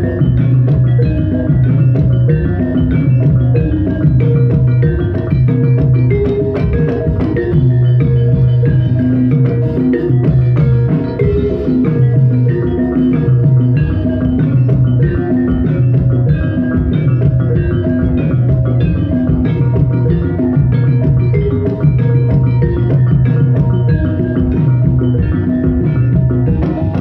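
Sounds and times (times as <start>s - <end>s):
drums: 0.0s - 27.0s
metallophones struck with mallets: 0.0s - 27.0s.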